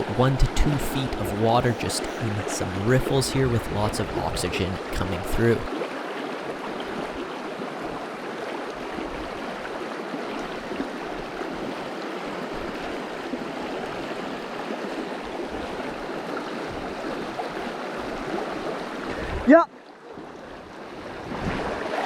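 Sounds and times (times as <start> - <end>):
stream rushing through riffles: 0.0 - 19.6.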